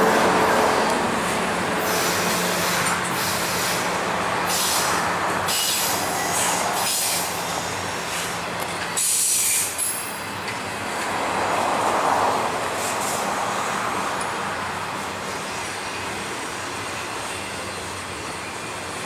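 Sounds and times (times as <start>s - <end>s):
freight train rolling on rails: 0.0s - 19.0s.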